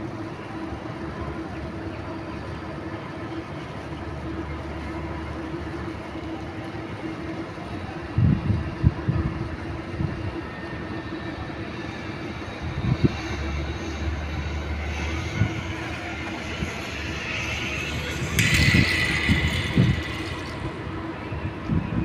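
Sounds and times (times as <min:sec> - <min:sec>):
city traffic hum: 0:00.0 - 0:22.0
faint drone: 0:00.0 - 0:22.0.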